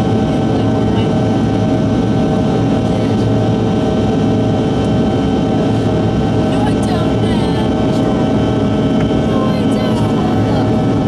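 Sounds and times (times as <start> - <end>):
jet engine cabin rush: 0.0 - 11.0
steady whining tones: 0.0 - 11.0.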